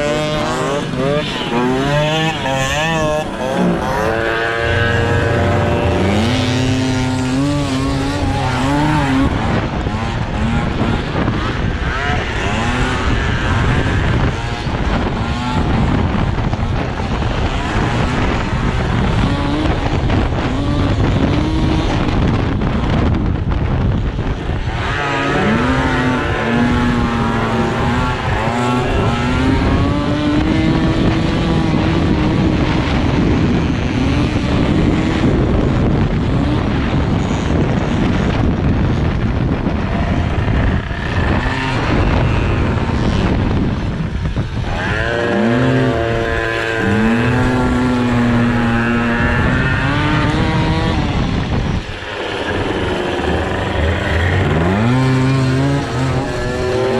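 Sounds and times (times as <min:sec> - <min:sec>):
scooter engines revving: 0:00.0 - 0:56.9.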